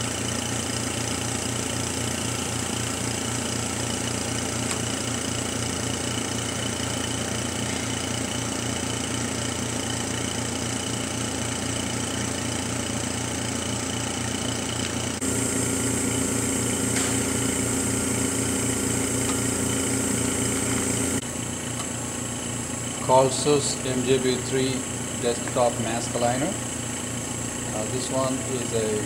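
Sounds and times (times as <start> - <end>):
cooling fans: 0.0 - 29.0
electrical hum: 0.0 - 29.0.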